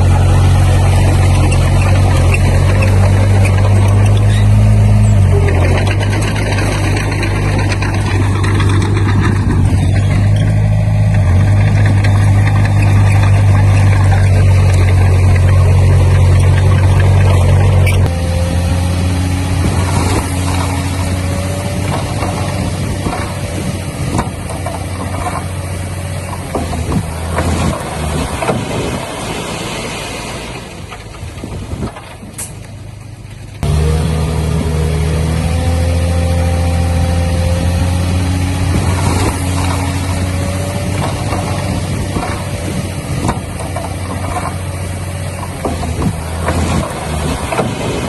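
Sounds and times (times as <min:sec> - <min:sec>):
knocks and clanks: 0:00.0 - 0:18.4, 0:19.3 - 0:29.5, 0:37.4 - 0:48.0
diesel engine running: 0:00.0 - 0:48.0.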